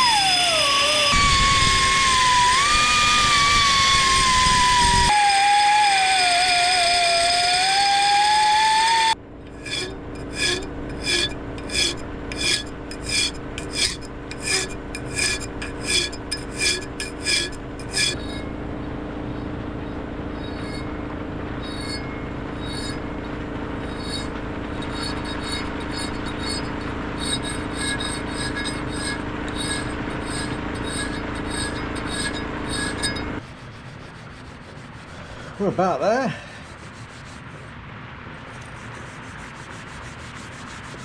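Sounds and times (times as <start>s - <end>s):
hand file strokes on metal: 0.0s - 18.5s, 21.6s - 23.2s, 23.8s - 35.7s, 36.3s - 37.7s, 38.4s - 41.0s
belt file motor whine: 0.0s - 35.3s.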